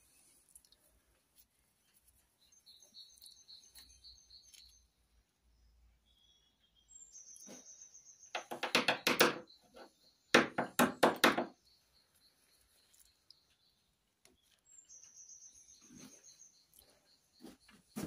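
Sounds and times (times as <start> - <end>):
faint high chirping: 0.0 - 18.0.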